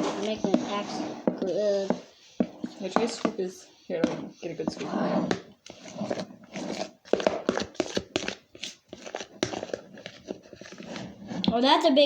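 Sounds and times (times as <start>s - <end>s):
spoon scraping in a container: 0.0s - 11.5s.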